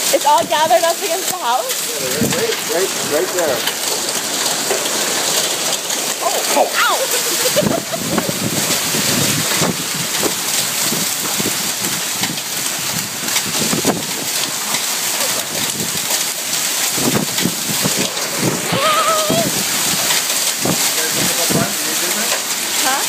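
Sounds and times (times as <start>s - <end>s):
hailstone impacts: 0.0s - 23.0s
heavy rain hissing: 0.0s - 23.0s.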